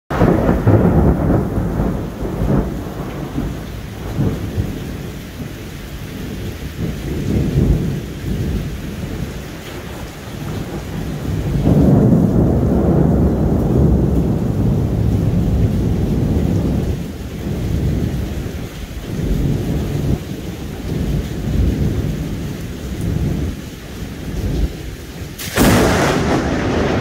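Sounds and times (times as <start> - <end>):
rainstorm: 0.1 - 27.0
thunder rumbling: 0.1 - 27.0.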